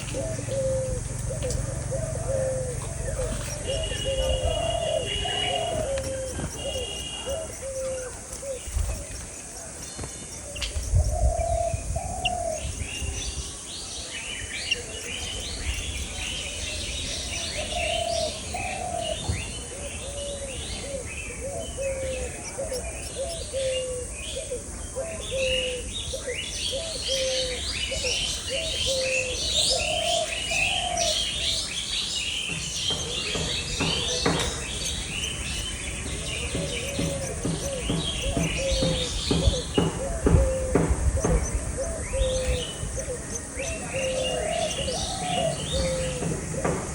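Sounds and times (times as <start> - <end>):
lower bird call: 0.0 - 46.9
small birds chirping: 0.0 - 46.9.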